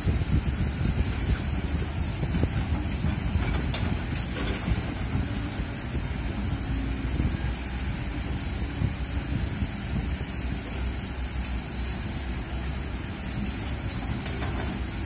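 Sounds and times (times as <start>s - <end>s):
excavator diesel engine running: 0.0s - 15.0s
wind rumbling on microphone: 0.0s - 15.0s.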